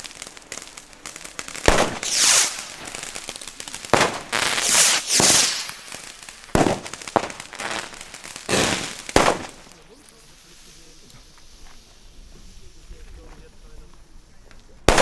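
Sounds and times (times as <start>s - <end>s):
firecracker bangs: 0.0s - 12.6s
loud hissing rush: 0.0s - 14.4s.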